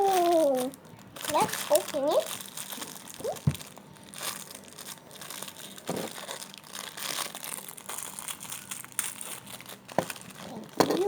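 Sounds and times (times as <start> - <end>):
packaging tearing: 0.0 - 11.0
plastic packaging crinkling: 0.0 - 11.0.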